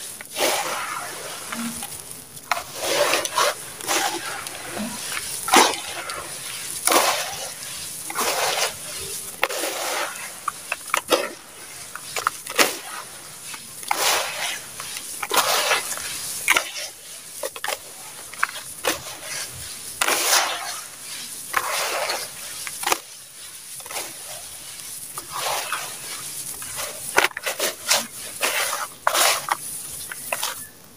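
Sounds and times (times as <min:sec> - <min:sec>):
hands crumbling gritty sand-cement: 0:00.0 - 0:30.9.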